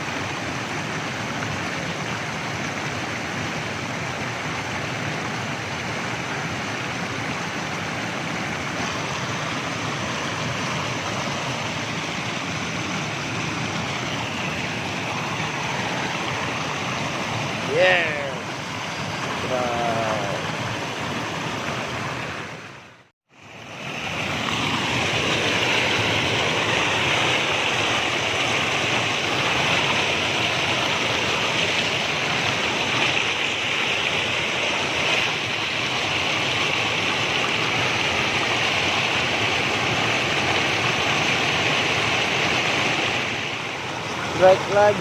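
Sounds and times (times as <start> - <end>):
rushing stream water: 0.0 - 45.0.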